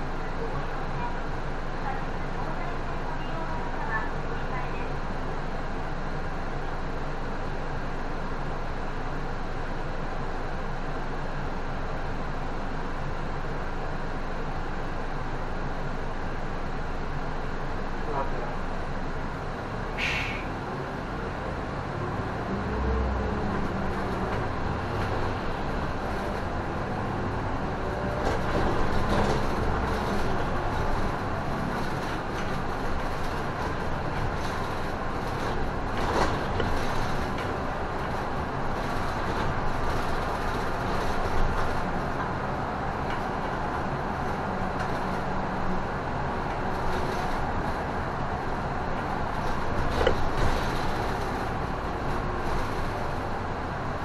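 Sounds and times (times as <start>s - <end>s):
bus engine: 0.0s - 54.0s
road noise: 0.0s - 54.0s.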